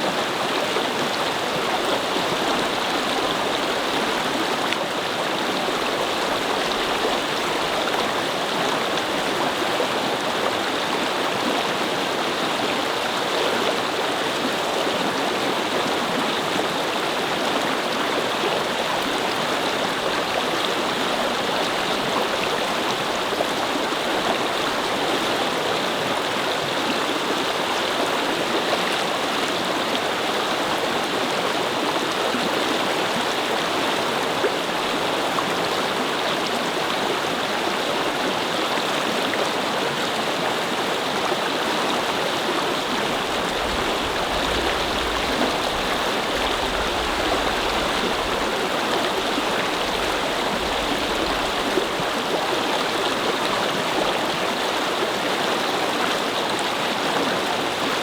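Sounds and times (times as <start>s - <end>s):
brook babbling over rocks: 0.0s - 58.0s.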